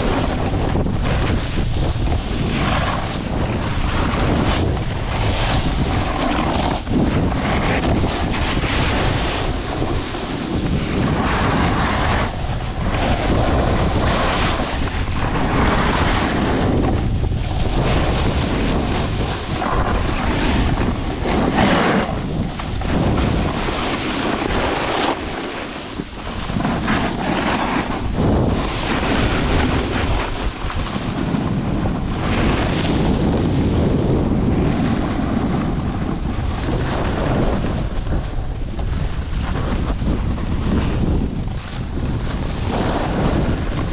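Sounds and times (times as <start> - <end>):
ski edges scraping snow: 0.0 - 43.9
wind rushing over microphone: 0.0 - 43.9.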